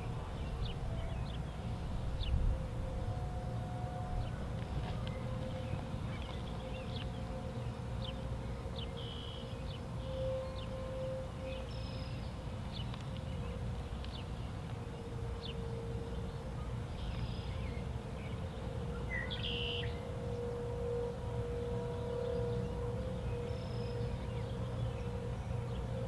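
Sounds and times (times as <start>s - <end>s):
distant warning sirens: 0.0s - 26.0s.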